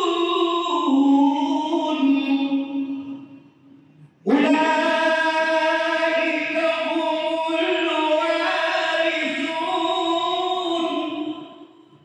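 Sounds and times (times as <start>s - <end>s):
man chanting a recitation: 0.0s - 3.3s, 4.2s - 11.7s.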